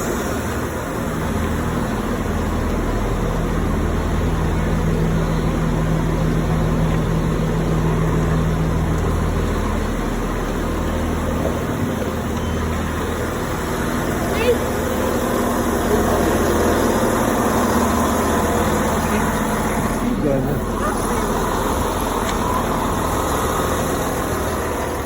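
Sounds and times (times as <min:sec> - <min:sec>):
diesel train engine humming: 0:00.0 - 0:25.0.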